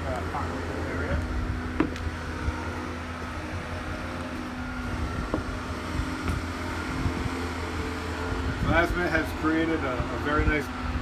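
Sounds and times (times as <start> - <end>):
machinery hum and rumble: 0.0 - 11.0.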